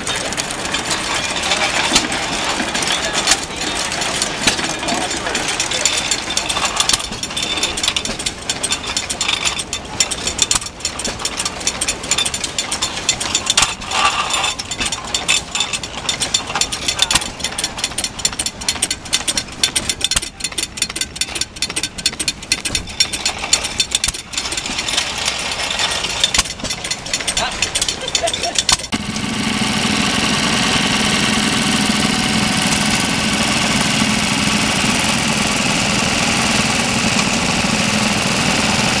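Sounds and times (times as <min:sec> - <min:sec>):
feed mill clattering: 0:00.0 - 0:39.0
small gas engine running: 0:00.0 - 0:39.0.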